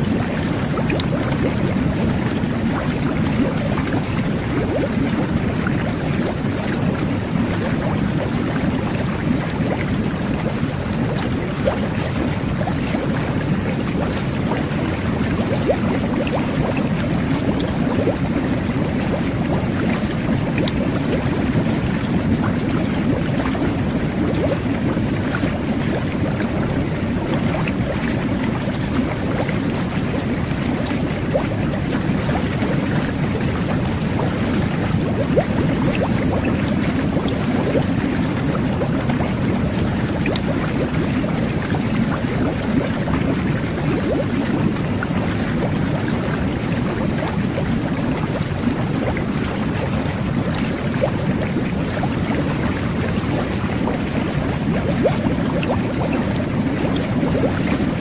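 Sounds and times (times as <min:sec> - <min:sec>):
bubbles popping: 0:00.0 - 0:58.0
water jets churning: 0:00.0 - 0:58.0.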